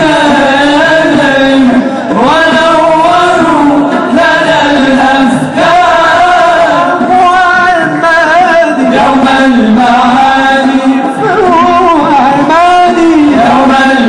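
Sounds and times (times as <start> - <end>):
men singing devotional song: 0.0 - 14.0.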